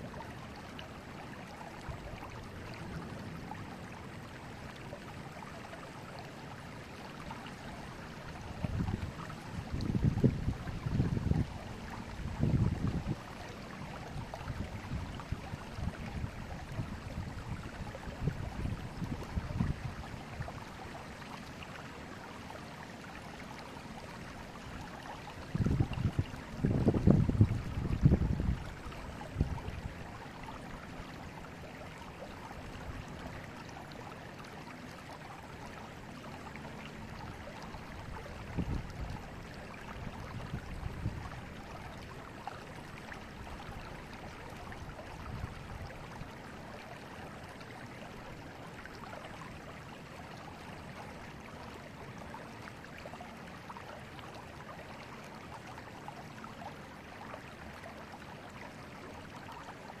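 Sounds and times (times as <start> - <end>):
low water surges: 0.0 - 60.0
river water rushing: 0.0 - 60.0.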